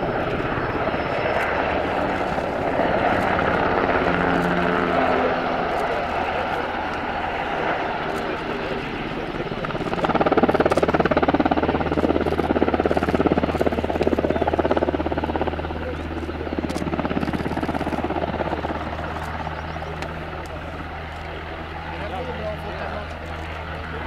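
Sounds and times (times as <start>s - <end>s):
helicopter engine tone: 0.0s - 24.0s
helicopter rotor beating: 0.0s - 24.0s.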